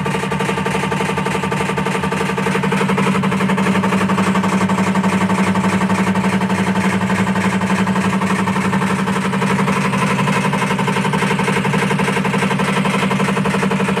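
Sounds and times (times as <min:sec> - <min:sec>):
washing machine humming and throbbing: 0:00.0 - 0:14.0.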